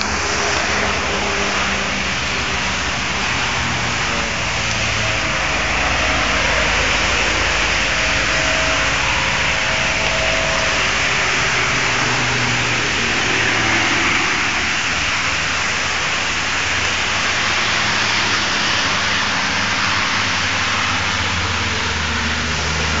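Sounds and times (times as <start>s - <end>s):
heavy rain hiss: 0.0s - 23.0s
low hum: 0.0s - 23.0s
wet road noise: 0.0s - 23.0s.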